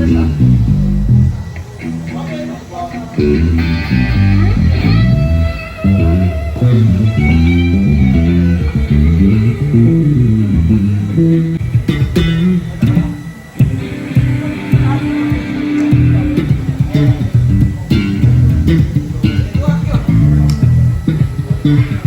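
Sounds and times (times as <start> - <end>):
electric bass guitar bassline: 0.0 - 22.0.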